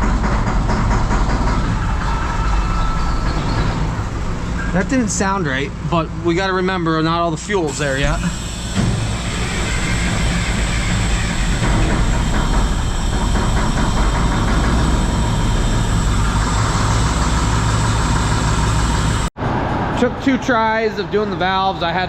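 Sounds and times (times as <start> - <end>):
truck diesel engine running: 0.0 - 19.3.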